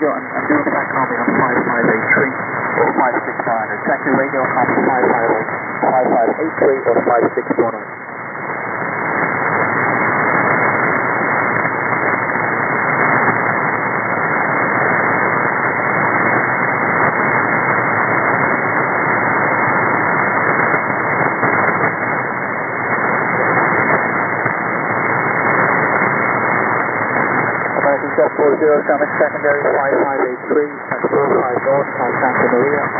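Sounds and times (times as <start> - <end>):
shortwave receiver hiss: 0.0 - 32.9.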